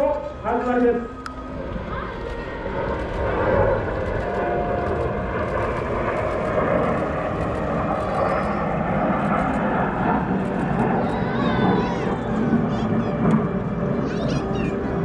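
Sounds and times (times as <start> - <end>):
jet engines roaring overhead: 0.0 - 15.0.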